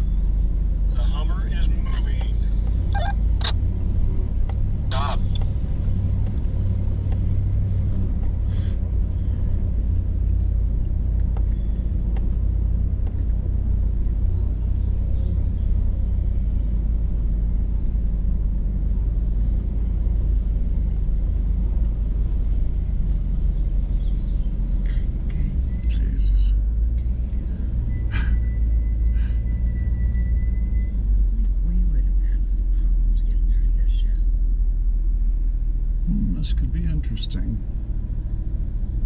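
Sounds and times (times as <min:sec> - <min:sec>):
engine low rumble: 0:00.0 - 0:39.0.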